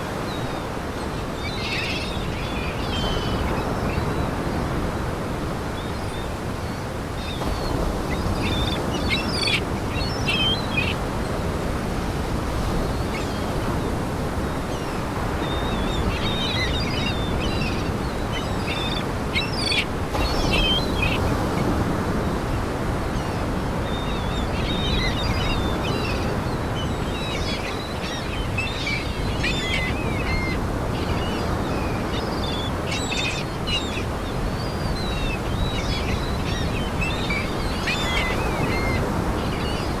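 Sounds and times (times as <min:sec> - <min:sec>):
seagulls calling: 0:00.1 - 0:04.8, 0:05.8 - 0:13.9, 0:14.5 - 0:40.0.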